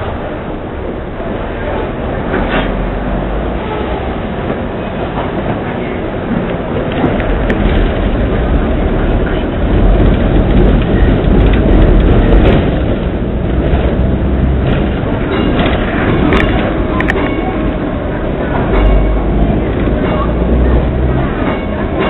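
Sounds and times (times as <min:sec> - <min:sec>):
tram wheels rumbling: 0:00.0 - 0:22.0.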